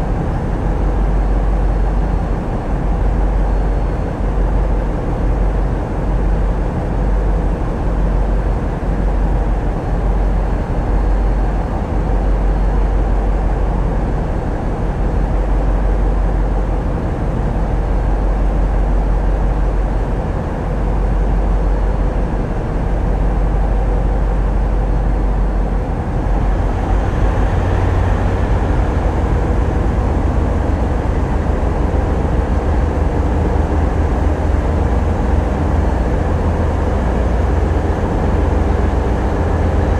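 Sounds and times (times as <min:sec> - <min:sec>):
diesel engines droning: 0:00.0 - 0:39.9.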